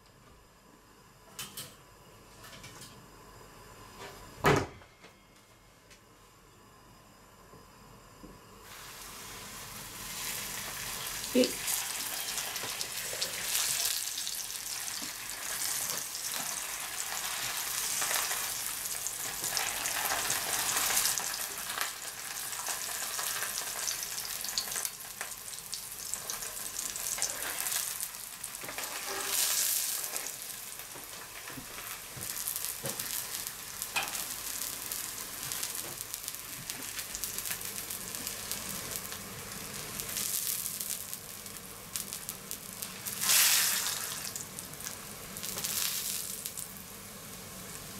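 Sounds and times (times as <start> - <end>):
oil sizzling in pan: 8.6 - 47.9.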